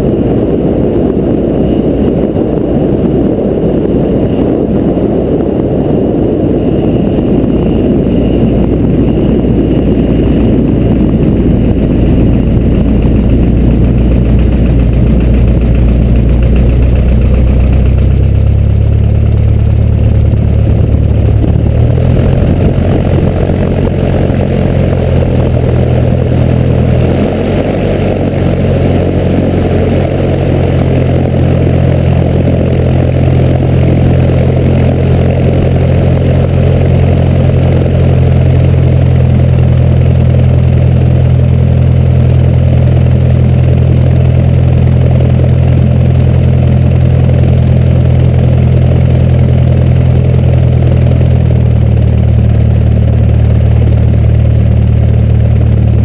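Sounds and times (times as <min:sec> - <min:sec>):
airplane engine idling: 0:00.0 - 0:56.0
wind rushing: 0:00.0 - 0:56.0.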